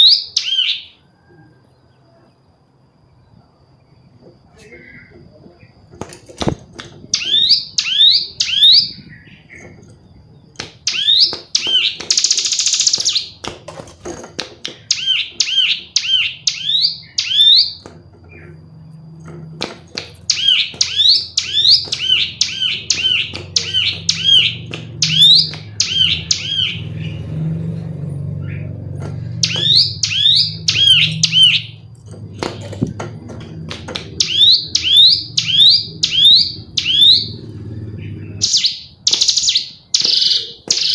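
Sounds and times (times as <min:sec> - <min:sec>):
bird chirping: 0:00.0 - 0:05.8, 0:07.0 - 0:13.5, 0:14.6 - 0:19.2, 0:19.9 - 0:40.9.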